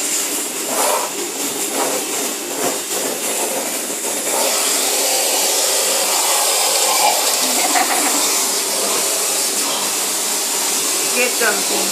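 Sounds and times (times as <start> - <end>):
vacuum cleaner running: 0.0 - 11.9.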